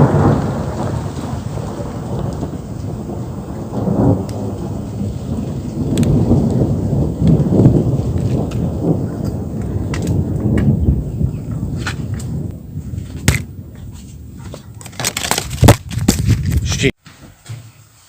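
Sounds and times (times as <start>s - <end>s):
rolling thunder: 0.0s - 16.9s.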